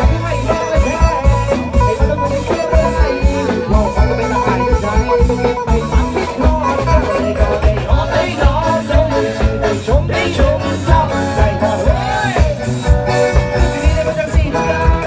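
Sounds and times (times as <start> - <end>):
band music: 0.0 - 15.0
bass drum beat: 0.0 - 15.0.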